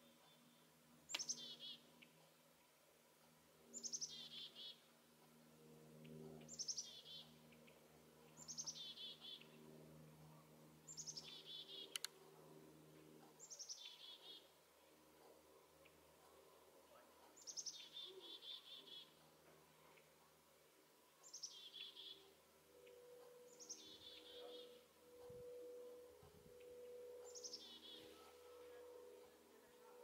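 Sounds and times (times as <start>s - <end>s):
songbird singing: 0.0s - 2.3s, 3.7s - 4.9s, 5.9s - 12.6s, 13.2s - 20.2s, 21.0s - 30.0s.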